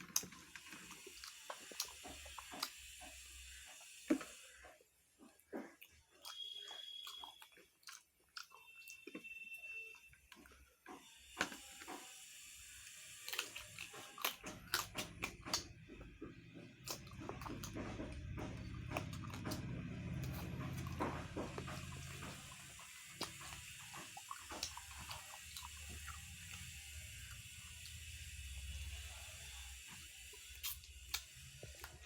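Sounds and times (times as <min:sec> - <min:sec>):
person chewing and crunching food: 0:00.0 - 0:32.0.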